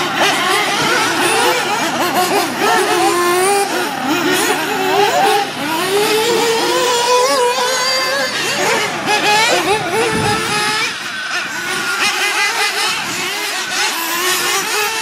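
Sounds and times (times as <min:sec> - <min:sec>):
rc car engines revving: 0:00.0 - 0:15.0.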